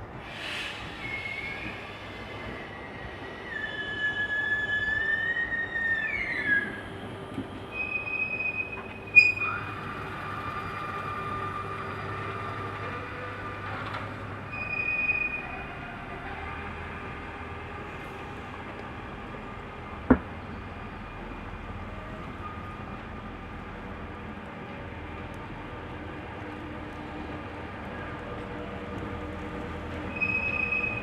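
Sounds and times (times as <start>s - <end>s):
train rumble: 0.0s - 31.0s
train wheels squealing on rails: 0.0s - 31.0s.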